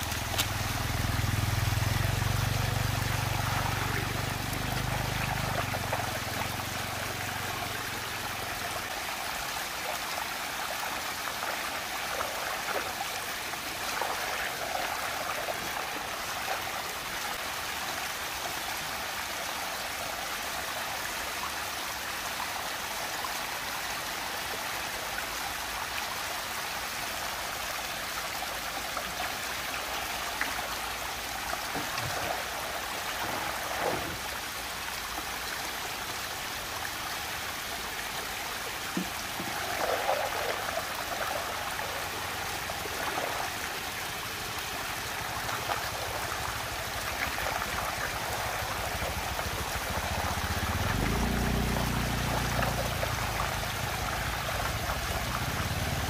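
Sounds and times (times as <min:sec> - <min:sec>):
water rushing into a whirlpool: 0:00.0 - 0:56.0
water splashes and gurgles: 0:00.0 - 0:56.0.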